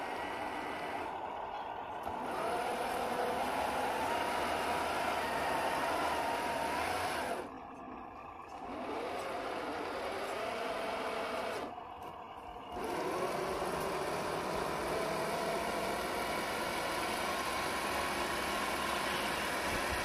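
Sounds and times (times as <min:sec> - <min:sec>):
electric motor whining: 0:00.0 - 0:20.0
wheels spinning in mud: 0:00.0 - 0:20.0.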